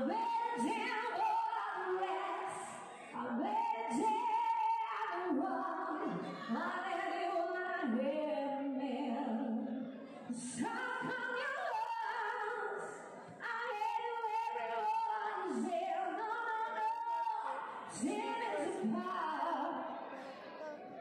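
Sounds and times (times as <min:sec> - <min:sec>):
woman singing into microphone: 0:00.0 - 0:20.0.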